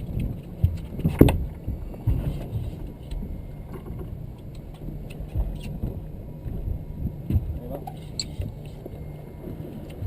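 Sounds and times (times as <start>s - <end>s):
boat engine low rumble: 0.0s - 10.0s.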